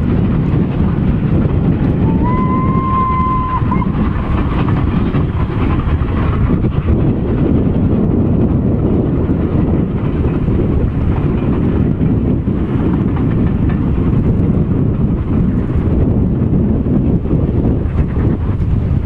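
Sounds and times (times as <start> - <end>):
distant steam train: 0.0 - 19.0
wind rumble on microphone: 0.0 - 19.0.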